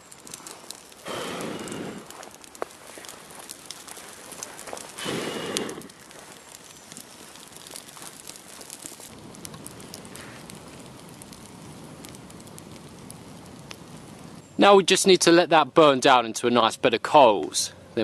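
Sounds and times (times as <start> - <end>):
campfire crackling and popping: 0.0 - 16.4.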